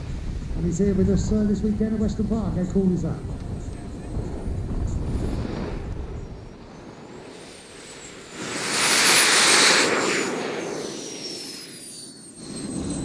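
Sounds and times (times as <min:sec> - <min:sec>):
jet engine passing by: 0:00.0 - 0:13.0.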